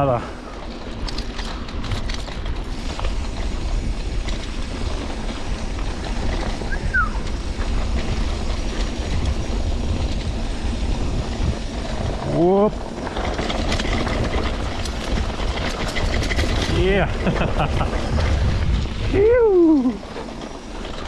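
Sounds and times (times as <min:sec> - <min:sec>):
bike rattling: 0:00.0 - 0:21.0
wind buffeting microphone: 0:00.0 - 0:21.0
tyres crunching on stony trail: 0:00.1 - 0:21.0.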